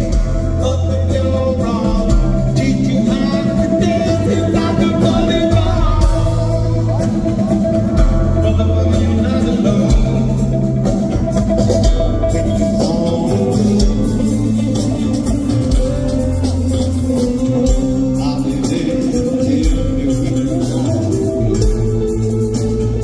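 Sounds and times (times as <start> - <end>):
person singing: 0.0 - 11.5, 12.2 - 23.0
rock band playing: 0.0 - 23.0.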